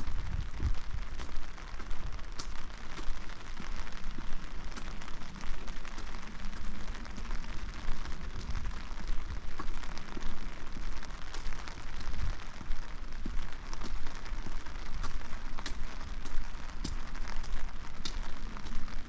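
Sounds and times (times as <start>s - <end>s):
raindrops ticking close by: 0.0s - 19.0s
steady rain hiss: 0.0s - 19.0s.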